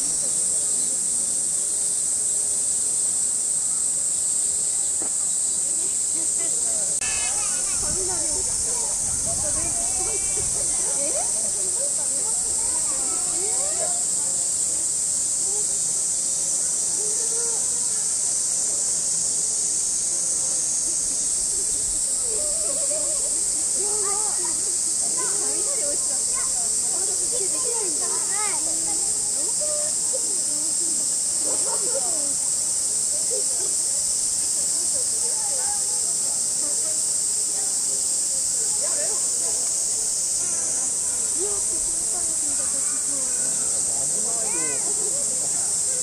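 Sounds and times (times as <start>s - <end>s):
cicadas droning: 0.0s - 46.0s
faint distant voices: 0.0s - 46.0s
steady high-pitched hiss: 0.0s - 46.0s.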